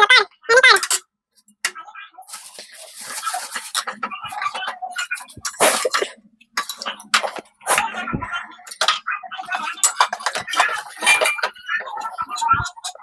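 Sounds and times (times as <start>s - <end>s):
kitchen utensils clattering: 0.8s - 1.0s, 2.3s - 13.0s.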